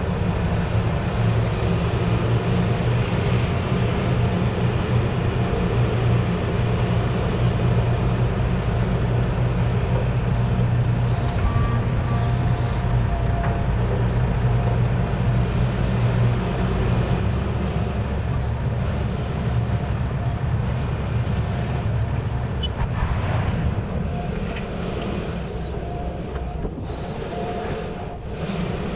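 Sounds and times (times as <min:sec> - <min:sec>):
heavy diesel truck engine drone: 0:00.0 - 0:28.9.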